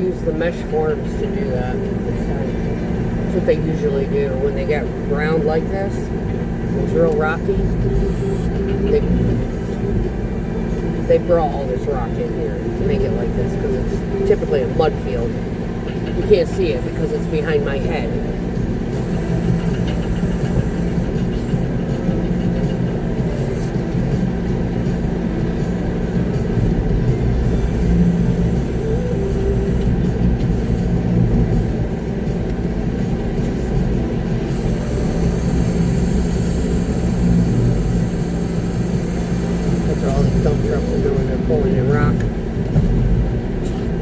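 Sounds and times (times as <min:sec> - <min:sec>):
truck diesel engine rumbling: 0:00.0 - 0:44.0.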